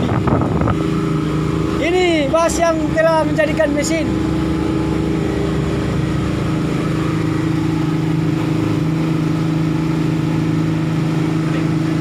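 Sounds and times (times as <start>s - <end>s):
boat wake rushing: 0.0s - 12.0s
outboard motors droning: 0.0s - 12.0s.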